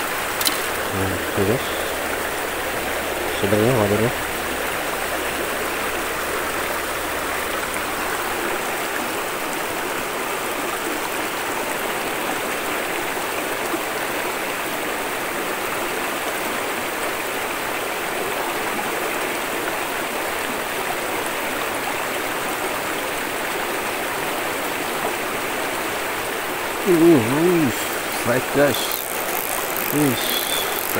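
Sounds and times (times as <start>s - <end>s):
water rushing over stones: 0.0s - 30.9s.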